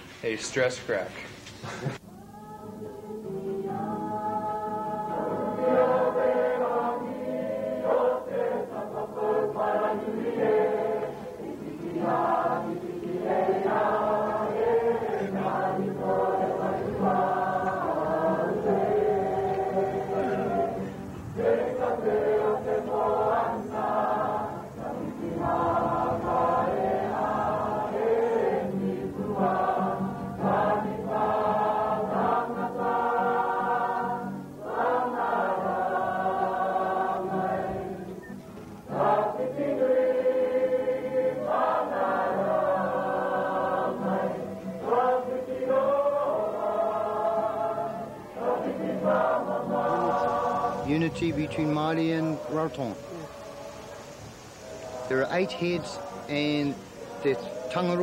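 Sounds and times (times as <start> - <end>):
group of voices singing: 1.7 - 58.0.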